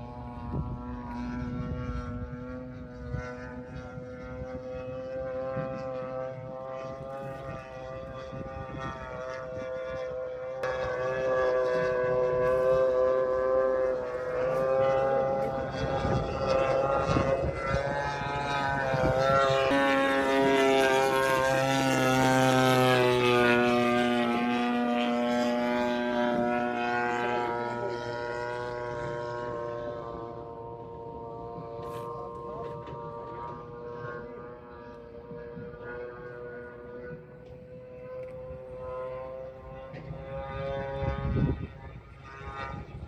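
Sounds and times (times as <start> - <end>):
model plane engine droning: 0.0 - 43.0.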